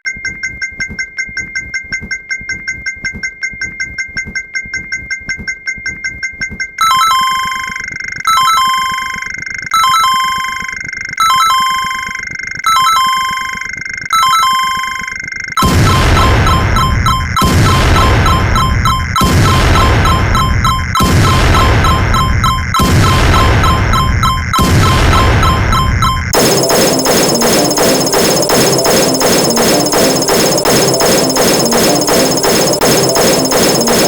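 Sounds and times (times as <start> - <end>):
continuous ringing tone: 0.0 - 34.0
rapid electronic dings: 0.0 - 34.0.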